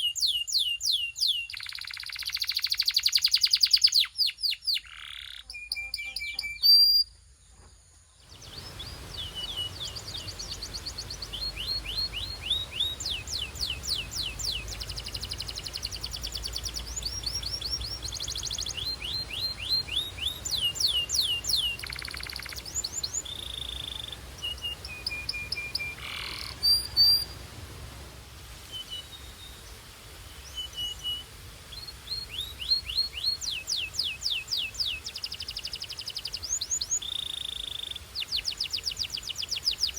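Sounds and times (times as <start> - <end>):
canary singing trills: 0.0 - 7.2, 8.3 - 27.4, 30.4 - 39.9.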